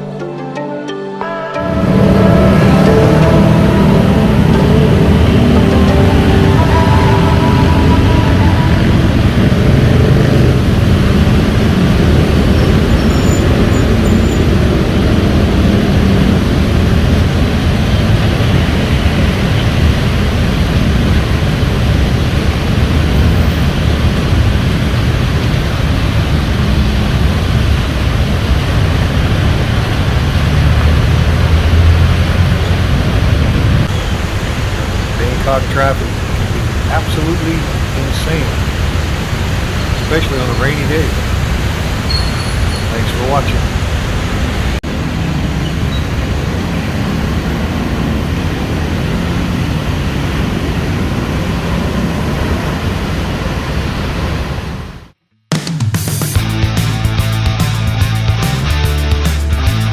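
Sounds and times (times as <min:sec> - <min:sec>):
loud road traffic rumble: 0:01.6 - 0:55.1.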